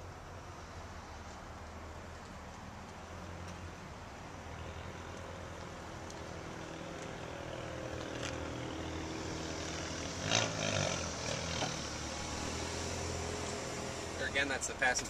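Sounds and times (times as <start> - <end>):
vehicle idling hum: 0.0 - 15.0.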